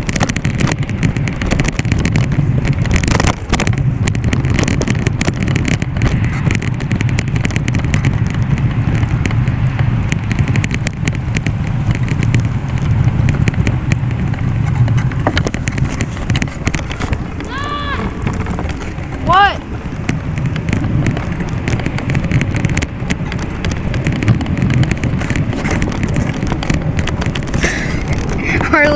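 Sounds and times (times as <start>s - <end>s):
small clicks and rattles: 0.0s - 28.9s
wind and road noise: 0.0s - 28.9s.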